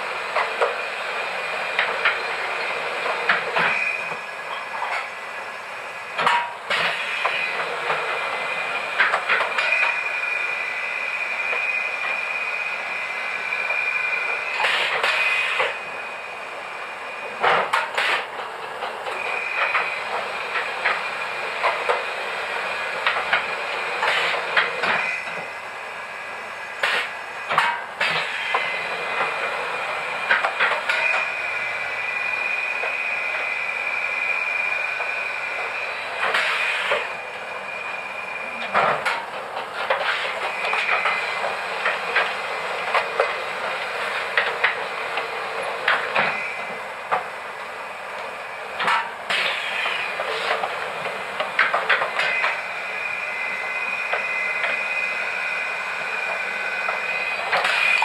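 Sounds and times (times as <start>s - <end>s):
printing press motor whine: 0.0s - 58.0s.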